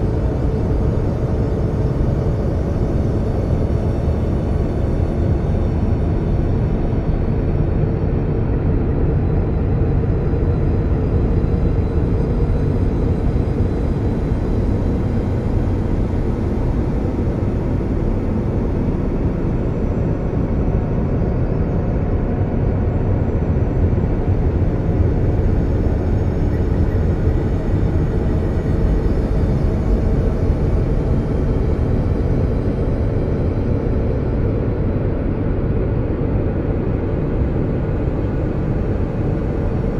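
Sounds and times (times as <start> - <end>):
low rumbling ambient drone: 0.0 - 39.9.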